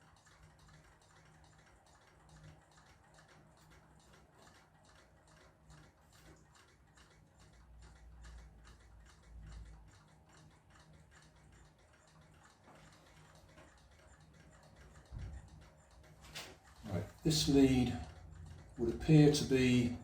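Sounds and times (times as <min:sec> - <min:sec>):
faint even ticking: 0:00.0 - 0:20.0.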